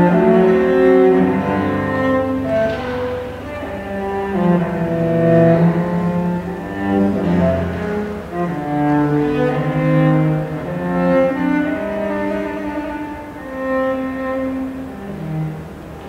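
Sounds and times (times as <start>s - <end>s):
cello playing slow melody: 0.0s - 16.0s.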